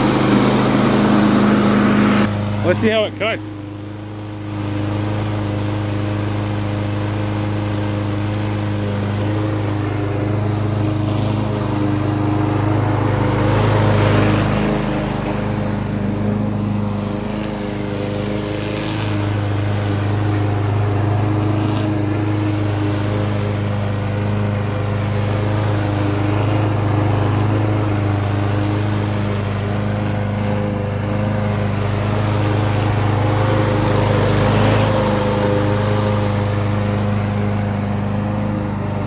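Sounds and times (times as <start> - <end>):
push mower engine running: 0.0 - 39.0.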